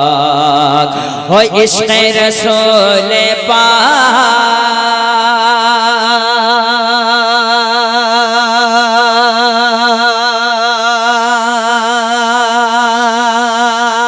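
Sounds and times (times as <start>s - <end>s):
man singing a long note: 0.0s - 14.0s.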